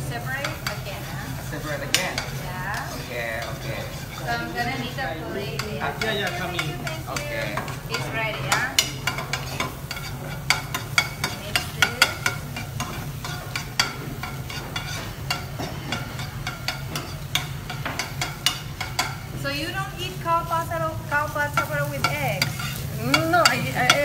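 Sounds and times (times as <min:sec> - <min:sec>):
eggs sizzling: 0:00.0 - 0:24.0
metal ladle scraping a frying pan: 0:00.2 - 0:19.3, 0:21.6 - 0:24.0.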